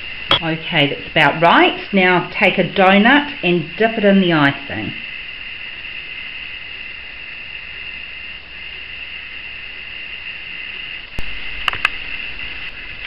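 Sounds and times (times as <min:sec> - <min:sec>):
high-pitched background hiss: 0:00.0 - 0:13.0.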